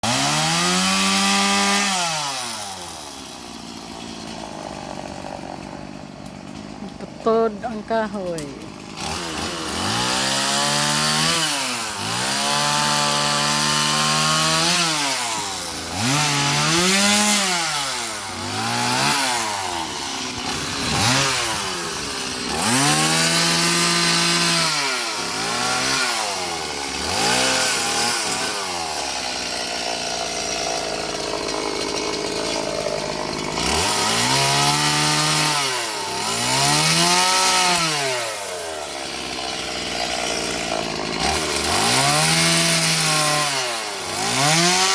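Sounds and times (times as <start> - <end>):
chainsaw engine revving: 0.0 - 44.9.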